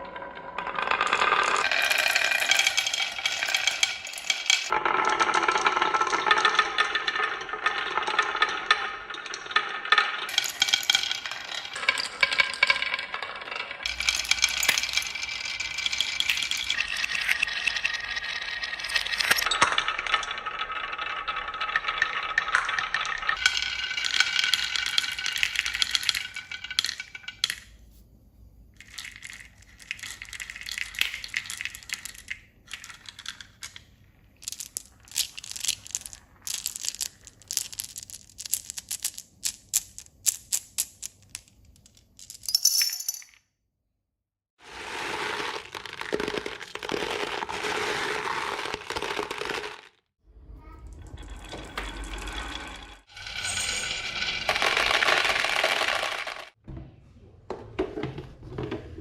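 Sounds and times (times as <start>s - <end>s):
small hard objects rattling: 0.6s - 27.6s, 28.8s - 42.7s, 44.6s - 50.0s, 51.4s - 56.6s.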